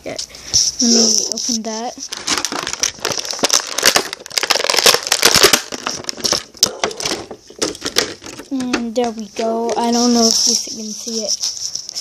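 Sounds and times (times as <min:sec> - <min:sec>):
packaging crinkling and tearing: 0:00.6 - 0:12.0.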